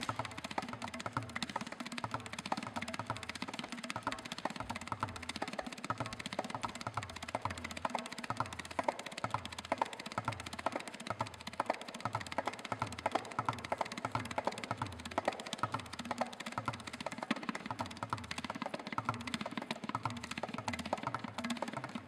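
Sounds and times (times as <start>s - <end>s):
tabla sharp treble strokes: 0.0s - 22.0s.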